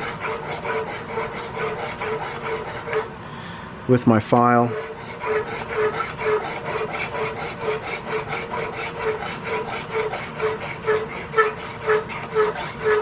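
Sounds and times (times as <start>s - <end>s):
hand file rasping on steel: 0.0s - 3.1s, 4.4s - 13.0s.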